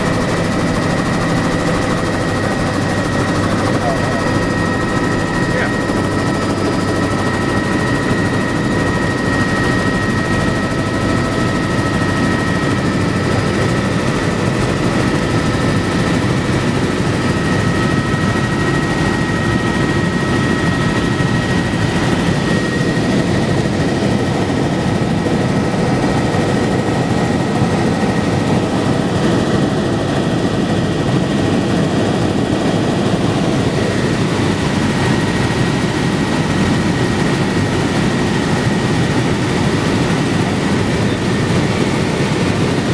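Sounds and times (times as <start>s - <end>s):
helicopter rotor and engine rumble: 0.0s - 42.9s.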